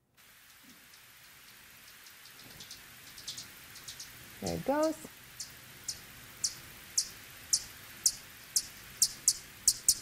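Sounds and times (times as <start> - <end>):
bat echolocation chirps: 0.2 - 10.0.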